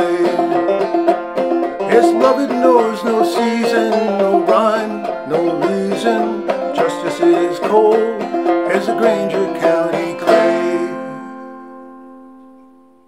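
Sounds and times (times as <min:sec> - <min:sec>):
banjo playing: 0:00.0 - 0:13.0.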